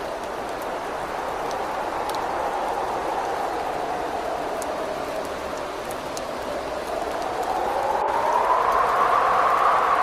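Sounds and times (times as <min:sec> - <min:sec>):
rain hissing: 0:00.0 - 0:10.0
raindrop ticks: 0:00.0 - 0:10.0
wind whistling: 0:00.0 - 0:10.0.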